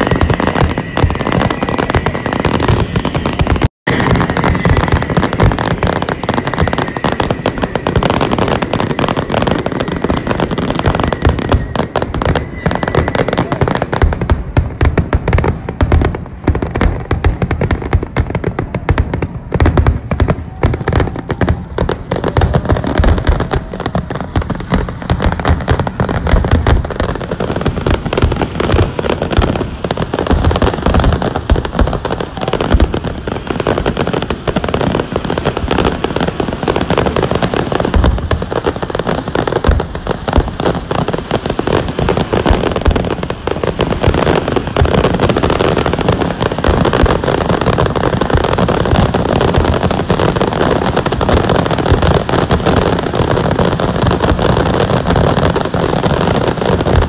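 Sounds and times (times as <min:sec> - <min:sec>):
firework booms and crackles: 0:00.0 - 0:57.0.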